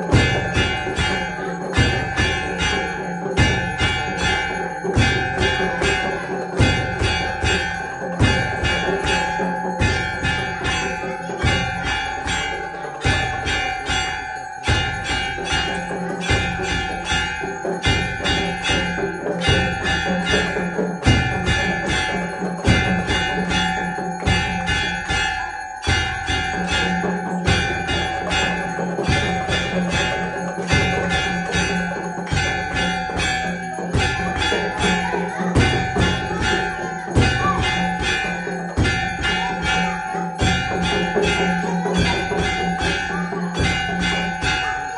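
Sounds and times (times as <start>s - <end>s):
deep drum beat: 0.0s - 44.9s
rhythmic percussion strikes: 0.0s - 44.9s
temple bells rung rapidly: 0.0s - 44.9s.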